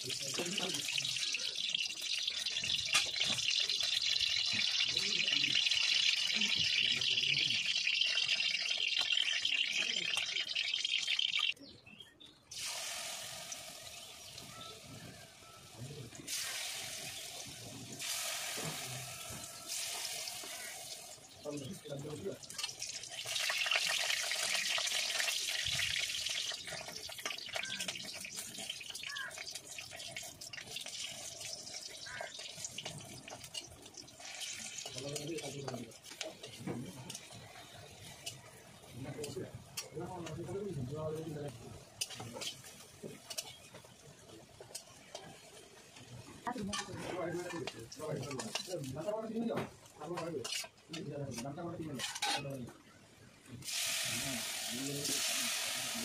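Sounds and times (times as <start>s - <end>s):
metal spatula turning food: 0.0s - 11.6s, 12.6s - 56.0s
oil sizzling in a pan: 0.0s - 11.6s, 12.5s - 50.9s, 53.6s - 56.0s.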